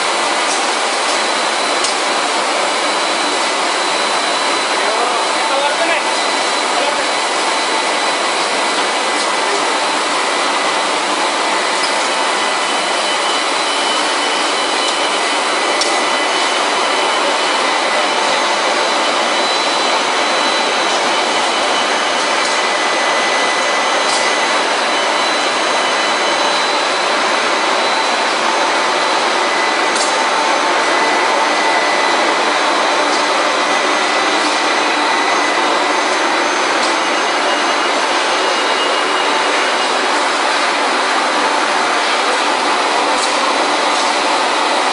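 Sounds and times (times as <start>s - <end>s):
high machine tones: 0.0s - 44.9s.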